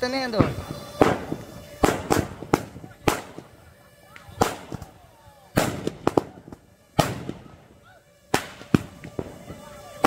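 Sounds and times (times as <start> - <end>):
firework bangs echoing: 0.0 - 10.0.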